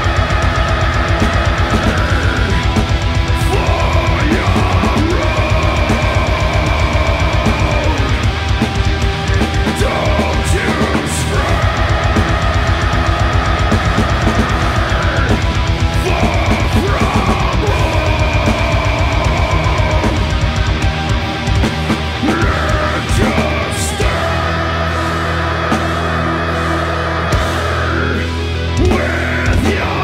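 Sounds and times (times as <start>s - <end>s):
fast kick-drum pattern: 0.0s - 24.5s
heavily distorted guitars: 0.0s - 30.0s.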